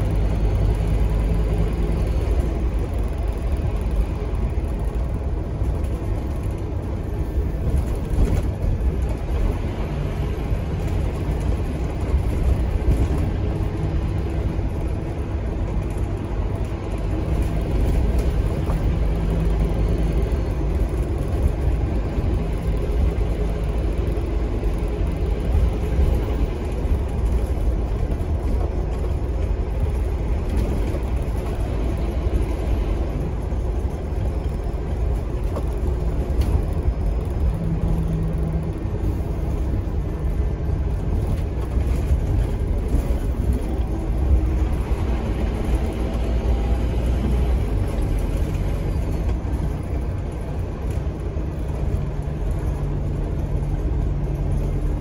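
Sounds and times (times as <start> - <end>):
bus diesel engine rumble: 0.0 - 55.0
road noise: 0.0 - 55.0.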